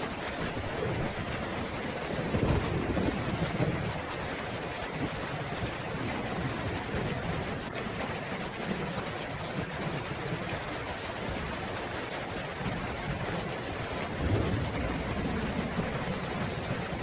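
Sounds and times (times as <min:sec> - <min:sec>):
steady rain pattering: 0:00.0 - 0:17.0.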